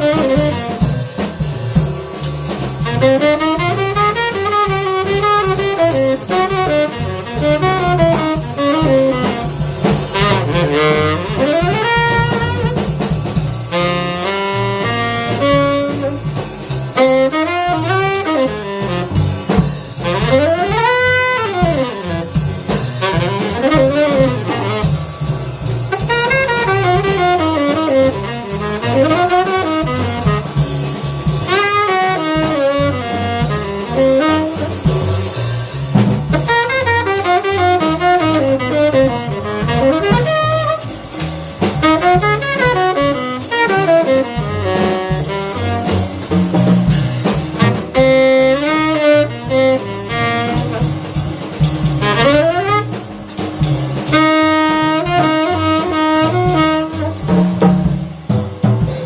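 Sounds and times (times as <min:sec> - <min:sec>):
bass: 0:00.0 - 0:59.0
drum kit: 0:00.0 - 0:59.0
jazz tenor saxophone: 0:00.0 - 0:59.0.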